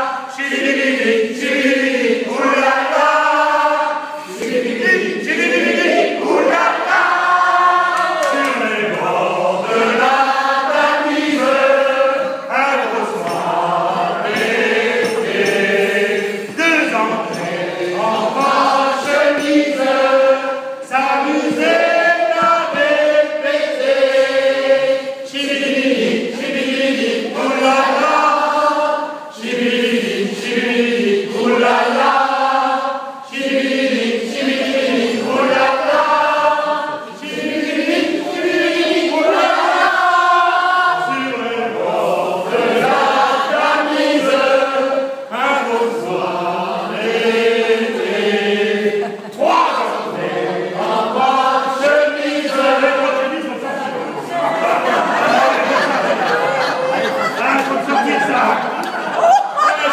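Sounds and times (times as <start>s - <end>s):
men singing in chorus: 0.0s - 53.8s.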